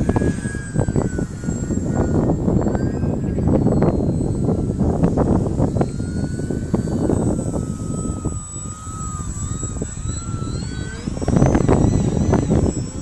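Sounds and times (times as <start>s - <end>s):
model plane motor whine: 0.0s - 13.0s
wind buffeting microphone: 0.0s - 13.0s.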